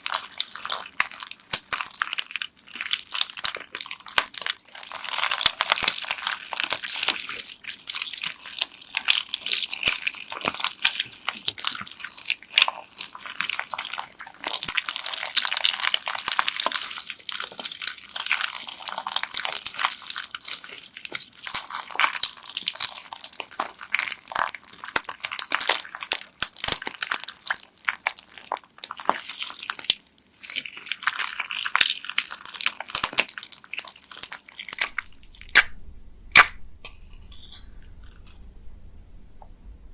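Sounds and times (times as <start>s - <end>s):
bead slime crunching and crackling: 0.0s - 38.7s.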